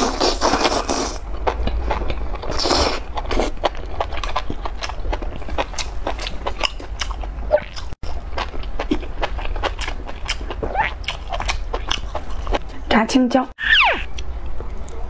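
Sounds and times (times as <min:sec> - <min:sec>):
wet chewing: 0:00.0 - 0:12.8.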